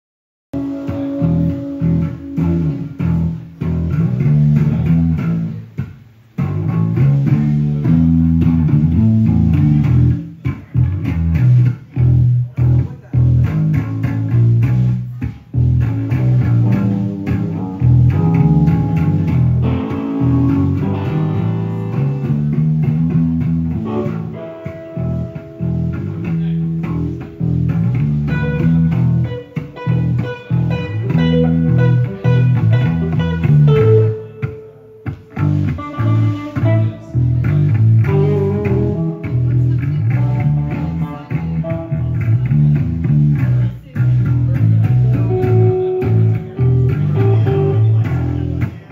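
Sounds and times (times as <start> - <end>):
bass guitar line: 0.5 - 48.9
electric guitar chords: 0.6 - 48.9
lead guitar notes: 0.6 - 48.9.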